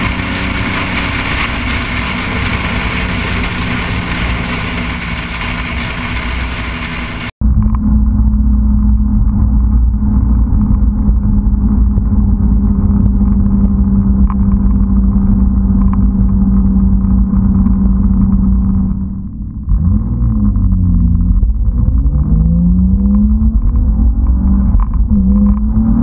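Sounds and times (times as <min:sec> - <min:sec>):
car engine drone in cabin: 0:00.0 - 0:26.0
low road rumble: 0:00.0 - 0:26.0.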